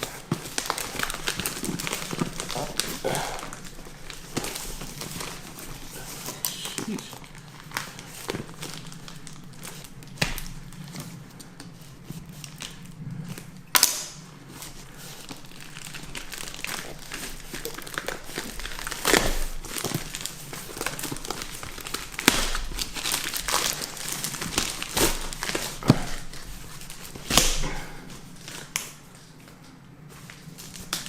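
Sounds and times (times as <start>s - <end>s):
wrapping paper crinkling and tearing: 0.0s - 31.0s.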